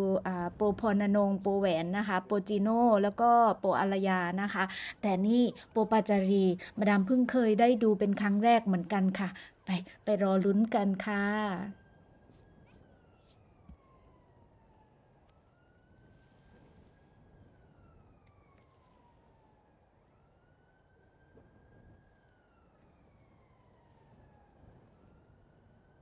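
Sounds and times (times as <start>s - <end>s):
distant wailing siren: 0.0s - 26.0s.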